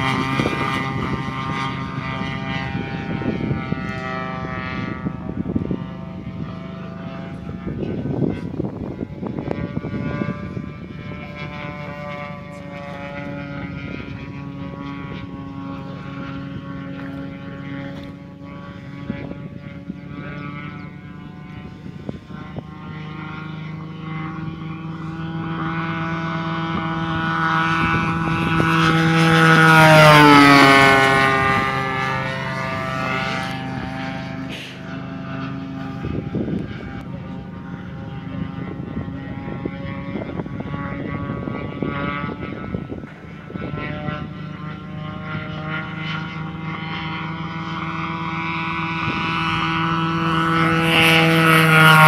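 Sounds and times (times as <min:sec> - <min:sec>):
model plane engine passing by: 0:00.0 - 0:52.0.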